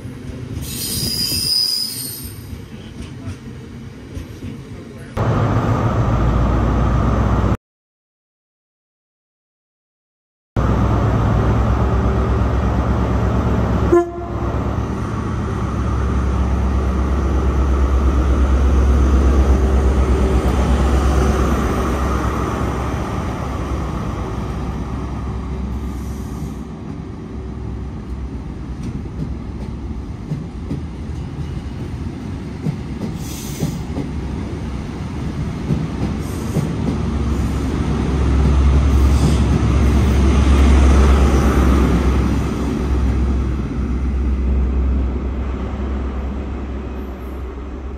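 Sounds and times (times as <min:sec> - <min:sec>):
diesel train engines rumbling: 0:00.0 - 0:07.6, 0:10.6 - 0:47.9
train coaches rolling by: 0:00.0 - 0:07.6, 0:10.6 - 0:47.9.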